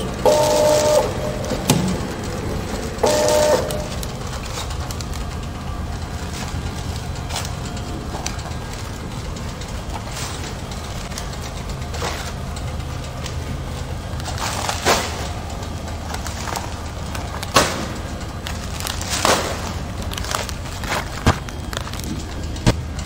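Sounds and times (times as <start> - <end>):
packing machine humming: 0.0 - 23.0
foil pouches crinkling clacks: 0.2 - 23.0.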